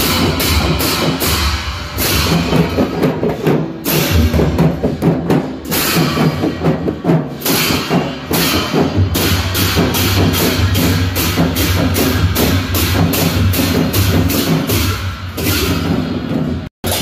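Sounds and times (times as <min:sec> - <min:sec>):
cymbals crashing: 0:00.0 - 0:17.0
drum band playing: 0:00.0 - 0:17.0.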